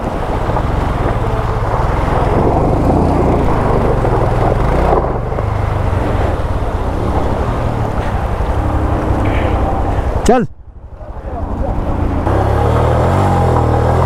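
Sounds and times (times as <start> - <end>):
car engine running hard: 0.0 - 14.0
rushing noise: 0.0 - 14.0.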